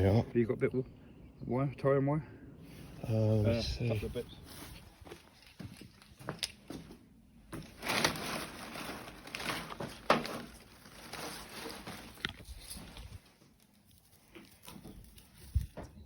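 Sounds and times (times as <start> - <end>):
rustling and handling noises: 2.7 - 16.0.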